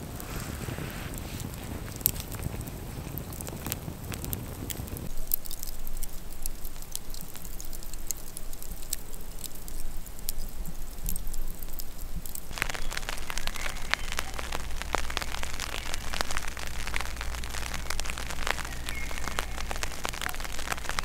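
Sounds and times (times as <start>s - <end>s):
low wind rumble: 0.0s - 21.0s
raindrops pattering: 0.0s - 21.0s.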